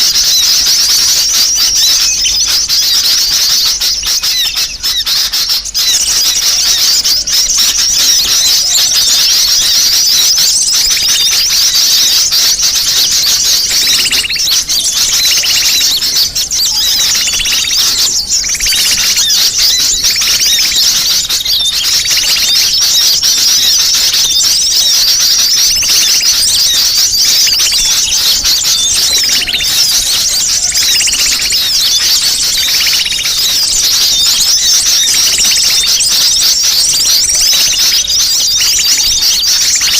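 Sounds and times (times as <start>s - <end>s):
bird trills: 0.0s - 39.9s
birds chirping and twittering: 0.0s - 39.9s.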